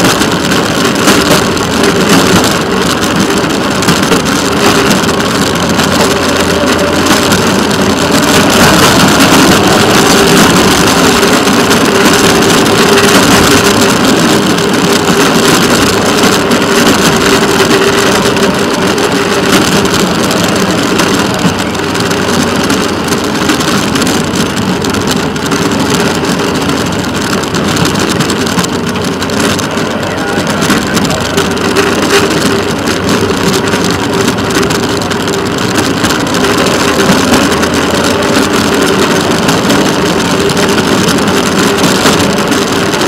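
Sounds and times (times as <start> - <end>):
engine drone: 0.0 - 43.0
wheels rolling on track: 0.0 - 43.0.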